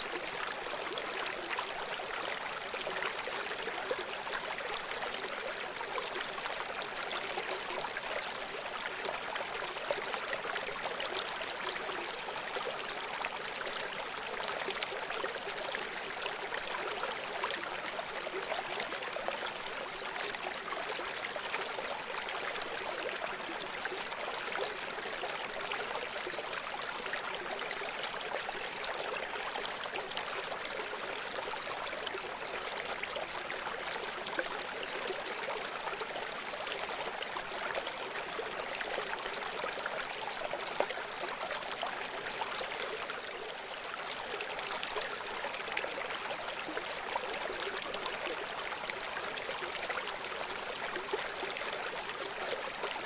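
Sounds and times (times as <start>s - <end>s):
stream water over stones: 0.0s - 53.0s.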